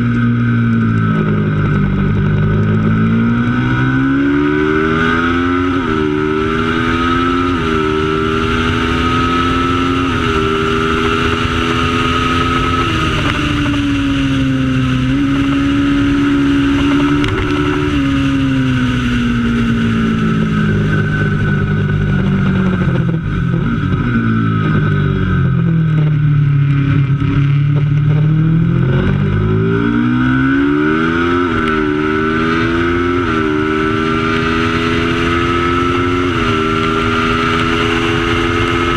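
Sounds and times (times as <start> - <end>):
racing motorcycle engine accelerating: 0.0 - 38.9.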